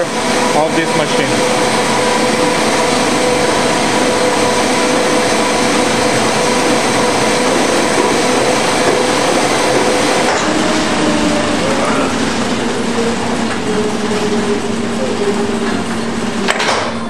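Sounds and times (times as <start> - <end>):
printing press clattering: 0.0 - 17.0.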